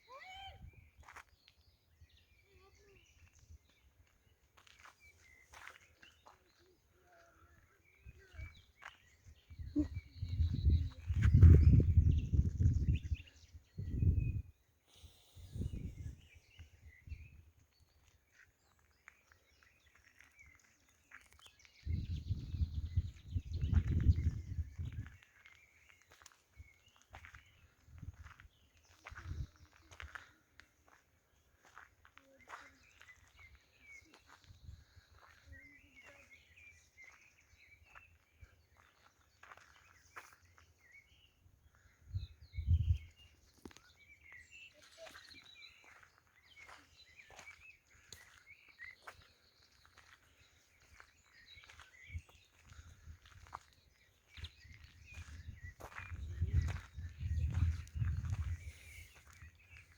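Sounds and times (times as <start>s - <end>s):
birds chirping faintly: 0.0s - 59.9s.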